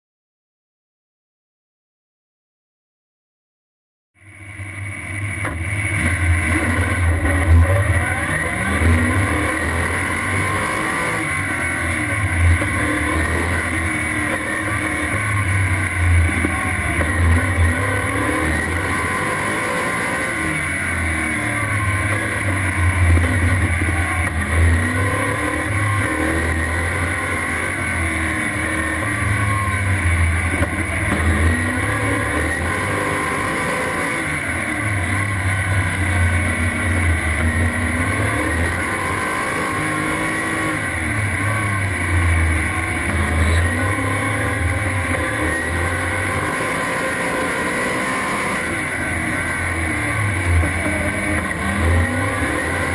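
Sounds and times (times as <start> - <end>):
race car engine revving: 4.3 - 52.9.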